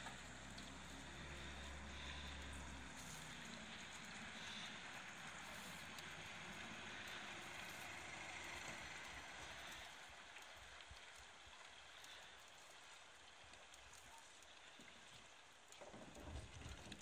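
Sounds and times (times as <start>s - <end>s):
faint outdoor ambience hiss: 0.0s - 15.9s.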